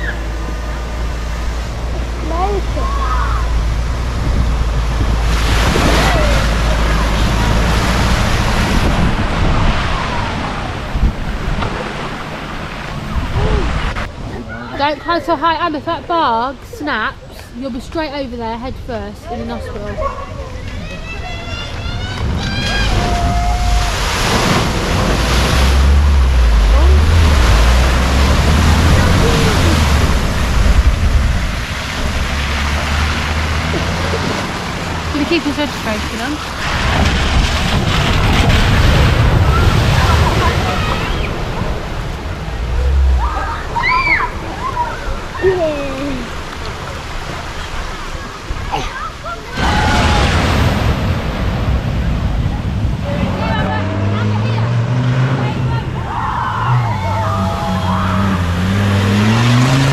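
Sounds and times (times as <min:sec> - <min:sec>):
car splashing through water: 0:00.0 - 0:17.2, 0:17.8 - 0:59.9
wind buffeting microphone: 0:00.0 - 0:54.6
low engine rumble: 0:00.0 - 0:59.9.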